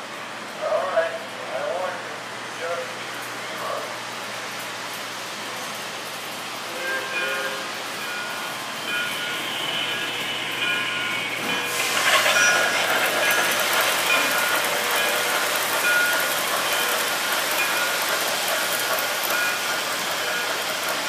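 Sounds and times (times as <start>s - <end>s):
model train wheels rumbling on rail: 0.0s - 21.0s.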